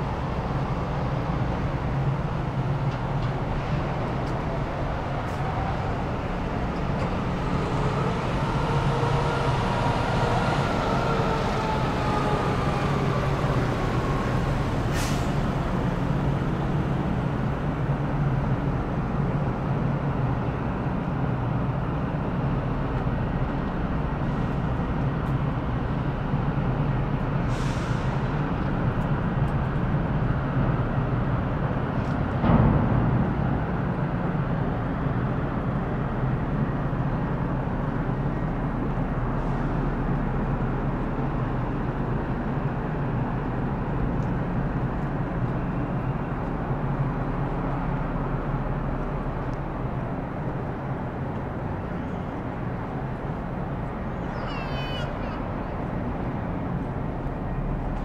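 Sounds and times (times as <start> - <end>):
heavy traffic engine rumble: 0.0 - 58.0
passing vehicle whine: 0.0 - 58.0.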